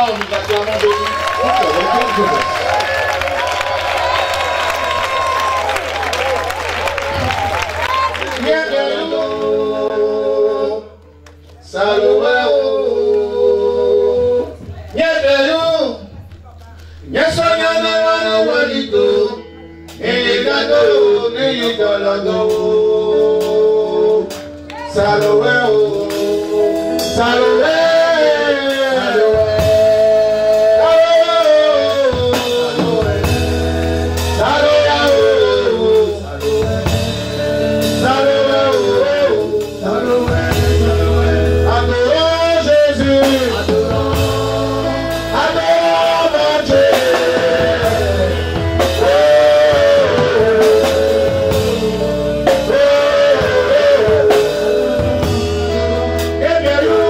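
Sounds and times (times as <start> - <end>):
amplified band music: 0.0 - 57.0
man singing into microphone: 8.2 - 11.0, 11.6 - 16.2, 17.1 - 57.0.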